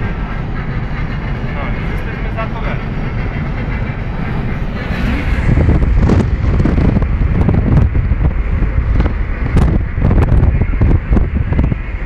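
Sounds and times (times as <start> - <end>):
car road noise: 0.0 - 12.0
wind buffeting microphone: 0.0 - 12.0.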